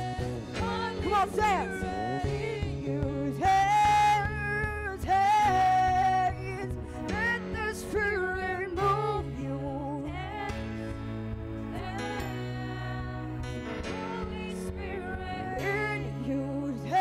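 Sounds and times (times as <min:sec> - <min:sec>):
woman singing: 0:00.0 - 0:10.6, 0:11.7 - 0:17.0
keyboard and bass accompaniment: 0:00.0 - 0:17.0.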